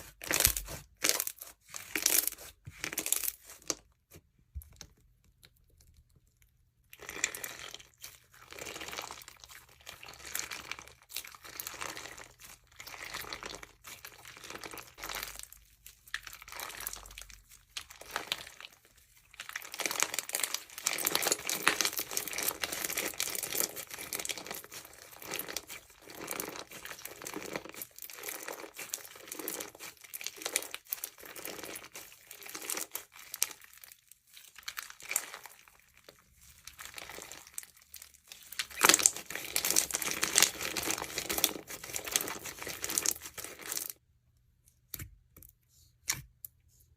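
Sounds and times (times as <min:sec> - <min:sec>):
bead slime crackling and popping: 0:00.1 - 0:03.8, 0:08.0 - 0:44.0.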